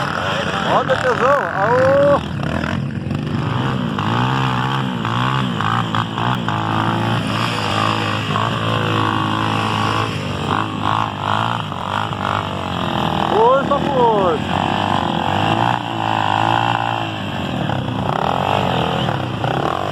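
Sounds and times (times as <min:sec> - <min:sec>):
motorcycle engine revving hard: 0:00.0 - 0:19.9.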